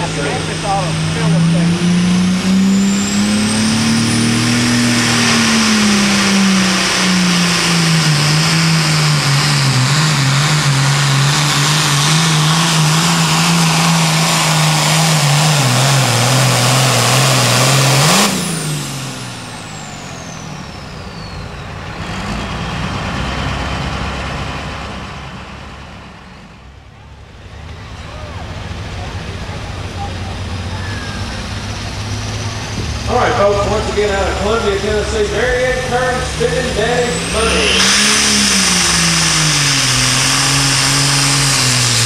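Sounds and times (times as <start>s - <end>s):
tractor diesel engine at full throttle: 0.0s - 42.0s
turbocharger whistling down: 0.3s - 22.6s, 27.5s - 42.0s.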